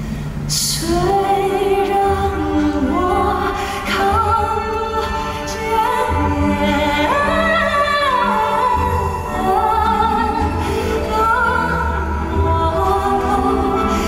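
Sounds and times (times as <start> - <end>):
instrumental accompaniment with bass: 0.0 - 14.0.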